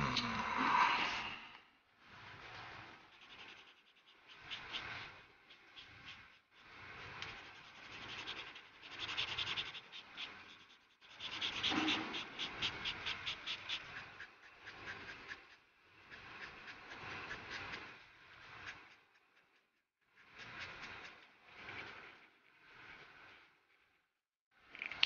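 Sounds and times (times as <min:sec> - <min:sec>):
colouring strokes on paper: 0:02.0 - 0:23.4.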